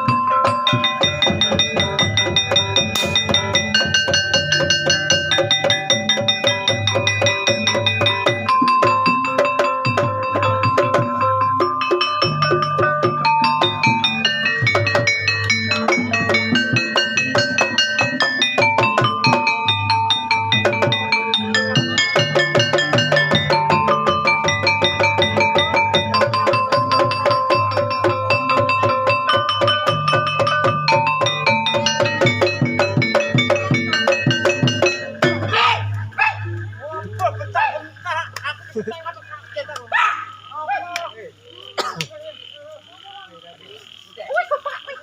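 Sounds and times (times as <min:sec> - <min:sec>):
drums playing fast beat: 0:00.0 - 0:36.0
mallet-struck metal notes: 0:00.0 - 0:38.7.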